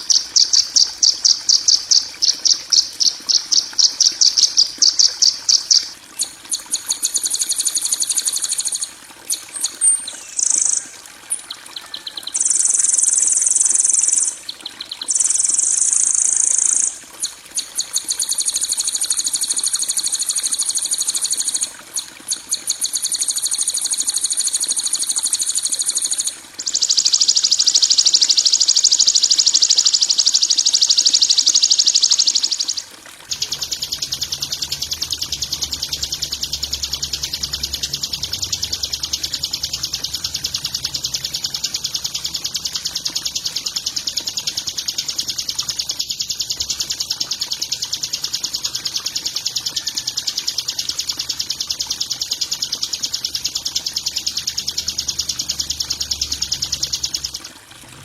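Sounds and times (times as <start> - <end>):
songbird trilling: 0.0 - 21.7, 22.3 - 57.4.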